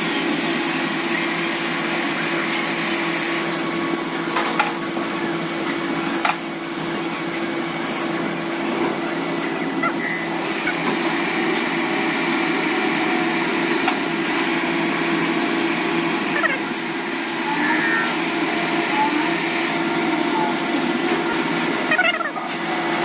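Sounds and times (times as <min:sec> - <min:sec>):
machine whirring and humming: 0:00.0 - 0:23.0.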